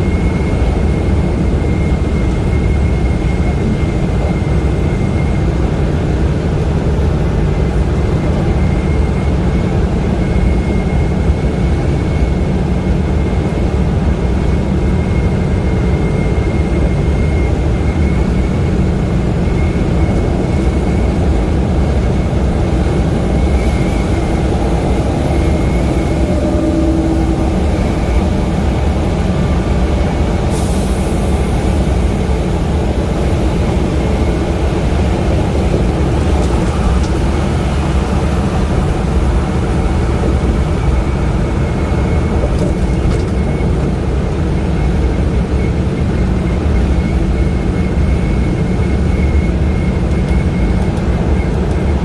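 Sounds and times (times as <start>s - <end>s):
engine and tyre rumble: 0.0s - 52.0s
faint steady whine: 0.0s - 52.0s.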